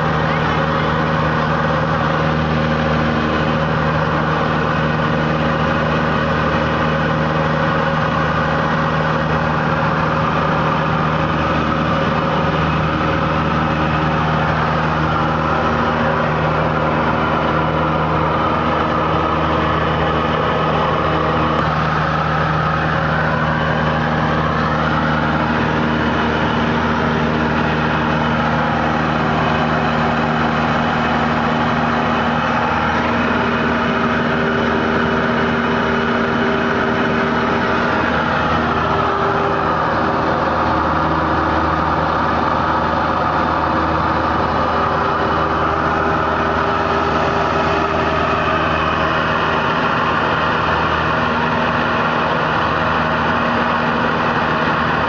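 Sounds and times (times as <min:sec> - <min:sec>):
airplane engine droning in cabin: 0:00.0 - 0:55.0.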